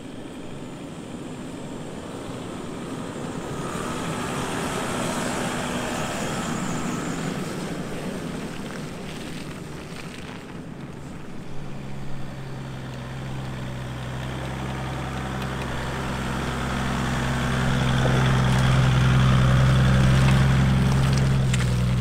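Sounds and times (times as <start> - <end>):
diesel engine driving past: 0.0 - 9.0, 11.4 - 22.0.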